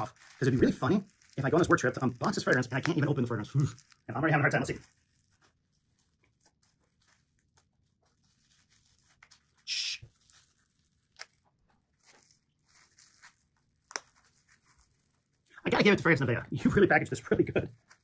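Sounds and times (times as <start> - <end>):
bubble wrap crinkling: 0.0 - 18.0
bubble wrap tearing: 0.0 - 18.0.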